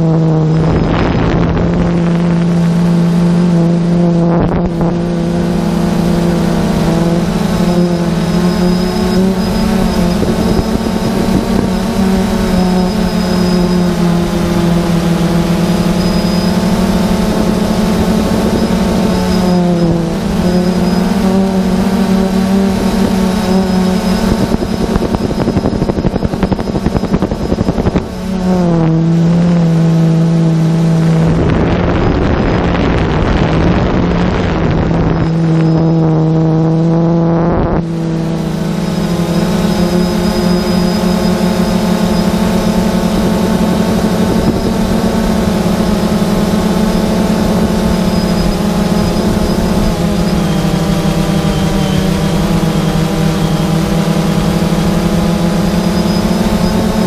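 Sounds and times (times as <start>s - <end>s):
drone propellers buzzing: 0.0s - 57.0s
wind on microphone: 0.0s - 57.0s.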